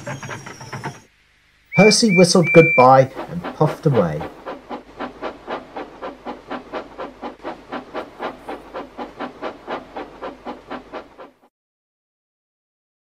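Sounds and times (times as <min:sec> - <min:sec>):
steam locomotive chuffing: 0:00.0 - 0:11.5.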